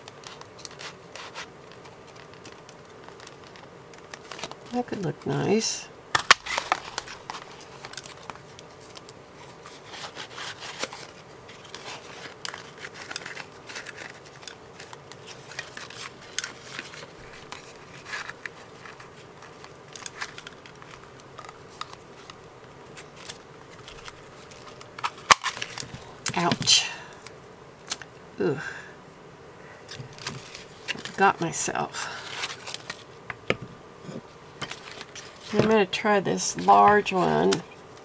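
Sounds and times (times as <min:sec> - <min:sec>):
paper rustling against plastic: 0:00.0 - 0:27.3, 0:29.9 - 0:38.0.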